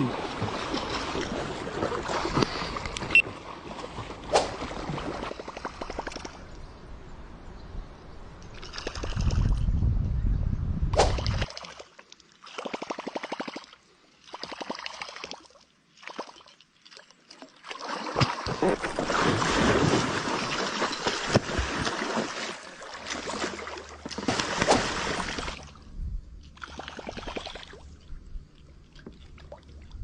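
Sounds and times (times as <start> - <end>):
water splashing and sloshing: 0.0 - 6.6, 11.0 - 30.0.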